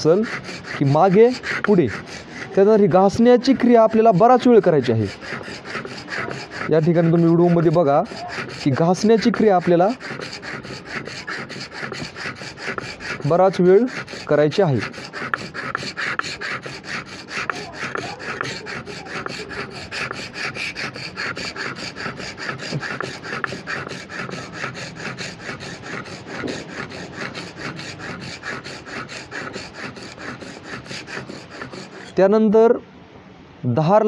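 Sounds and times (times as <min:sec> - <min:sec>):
chisel sharpened on a stone: 0:00.0 - 0:32.2.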